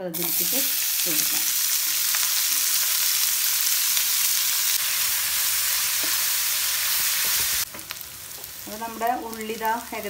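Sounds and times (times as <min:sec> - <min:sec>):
shallots sizzling in hot oil: 0:00.0 - 0:10.0.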